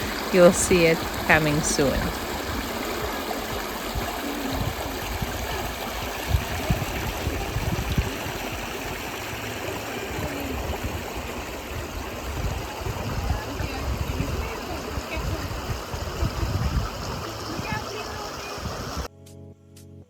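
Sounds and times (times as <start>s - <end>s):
river water over rocks: 0.0s - 19.1s.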